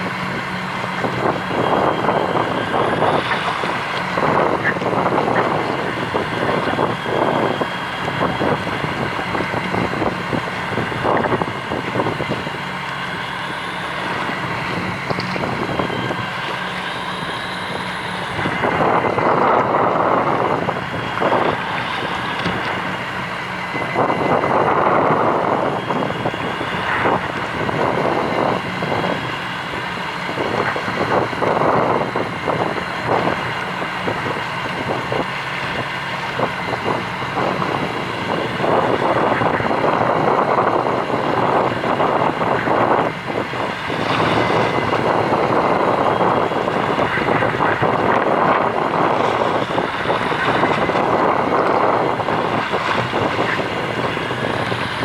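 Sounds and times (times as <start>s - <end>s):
boat engine running: 0.0s - 55.0s
wind buffeting microphone: 0.0s - 55.0s.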